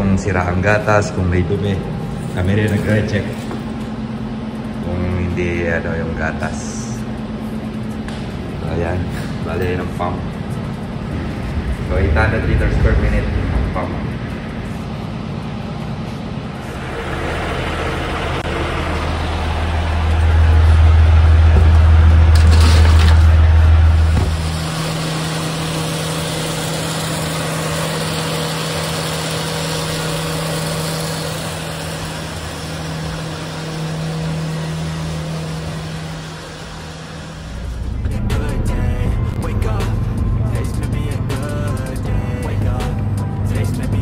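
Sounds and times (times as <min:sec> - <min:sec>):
pump and engine deep hum: 0:00.0 - 0:44.0.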